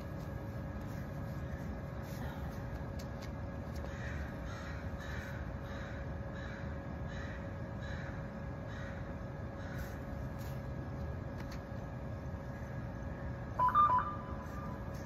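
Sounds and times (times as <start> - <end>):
steady hum and low rumble: 0.0 - 15.0.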